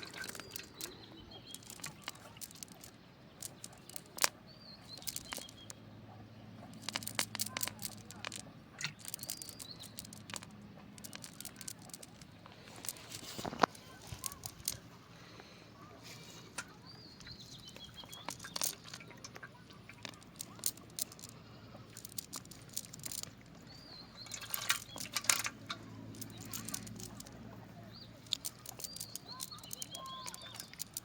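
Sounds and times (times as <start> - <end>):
sharp clicks and knocks: 0.0 - 5.8, 6.7 - 14.9, 16.5 - 27.4, 28.2 - 31.0
small birds chirping: 0.0 - 31.0.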